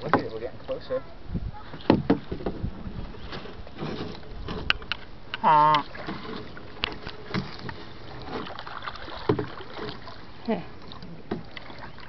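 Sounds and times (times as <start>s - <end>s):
paddles knocking against canoe: 0.0s - 0.6s, 1.6s - 12.0s
water washing: 1.6s - 12.0s.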